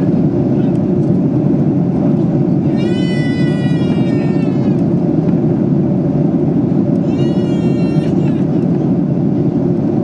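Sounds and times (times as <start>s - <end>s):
airplane cabin engine roar: 0.0s - 10.0s.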